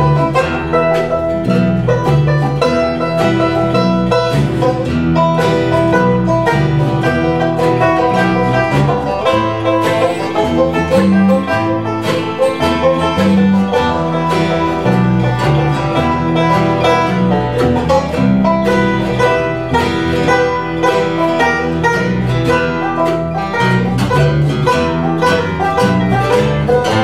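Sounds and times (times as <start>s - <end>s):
bluegrass band playing: 0.0s - 27.0s.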